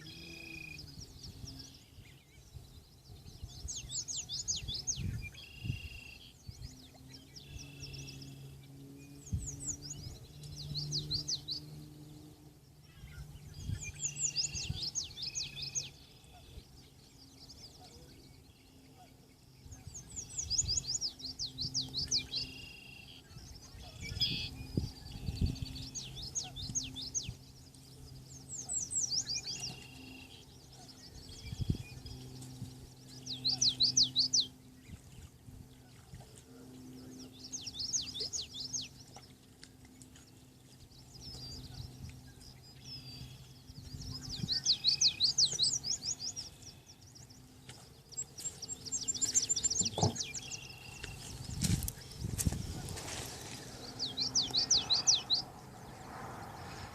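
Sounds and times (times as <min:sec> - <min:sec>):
faint low hum: 0:00.0 - 0:56.9
songbird singing: 0:00.0 - 0:56.9.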